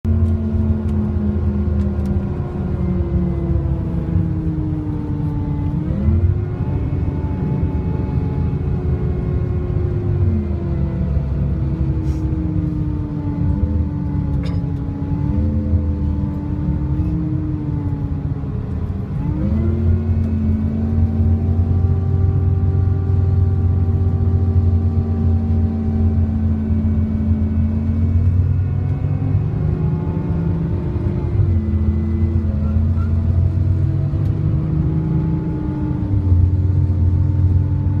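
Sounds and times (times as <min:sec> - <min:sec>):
bus engine drone: 0:00.0 - 0:38.0.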